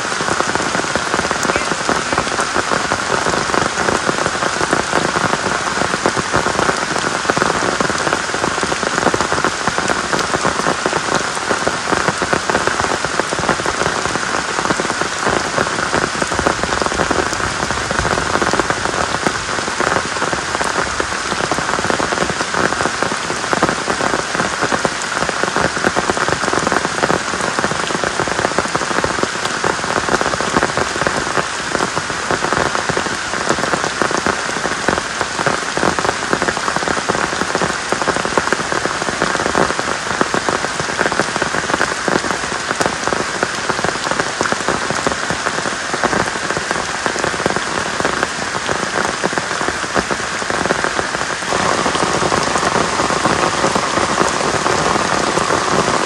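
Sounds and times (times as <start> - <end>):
heavy rain splashing into puddles: 0.0 - 56.0.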